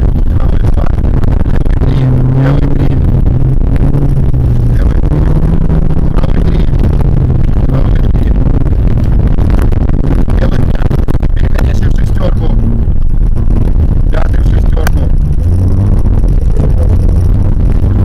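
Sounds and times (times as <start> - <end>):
car engine under load: 0.0 - 18.0
tyres rumbling on gravel: 0.0 - 18.0.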